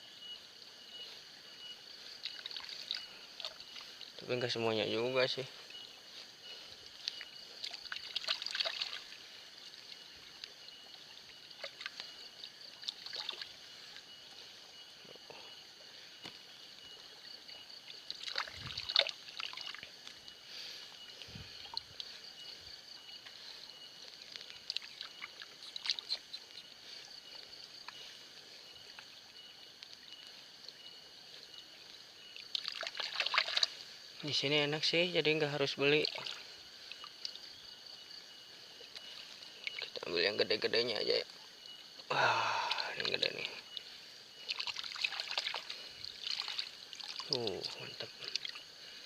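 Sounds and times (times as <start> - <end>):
water sloshing and trickling: 0.2 - 49.0.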